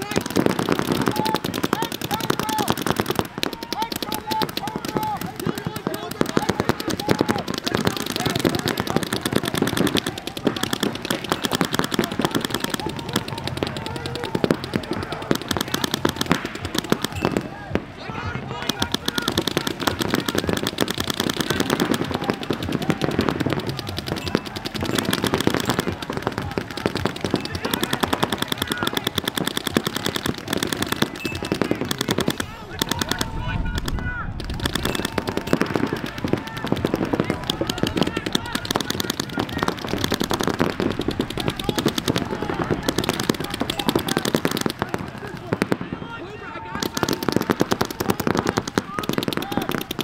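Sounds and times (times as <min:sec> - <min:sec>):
rapid paintball marker fire: 0:00.0 - 0:17.7, 0:18.5 - 0:46.1, 0:46.7 - 0:50.0.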